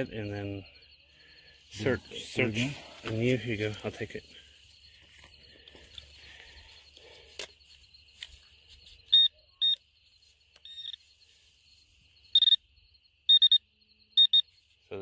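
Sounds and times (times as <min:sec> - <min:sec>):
metal detector beeping: 0:00.0 - 0:15.0.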